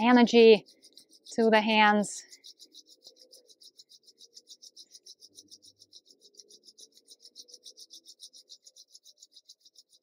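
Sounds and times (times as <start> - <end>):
palms rubbing together: 0.0 - 10.0.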